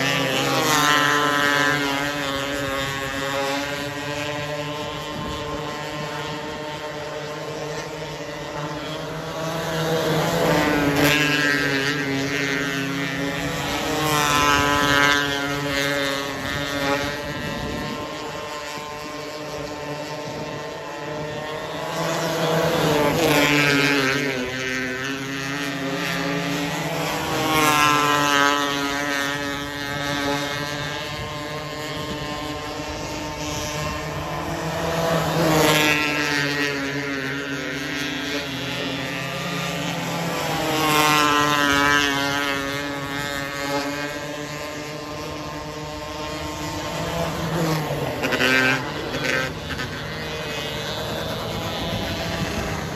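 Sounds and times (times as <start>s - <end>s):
race car engines lapping: 0.0s - 52.9s.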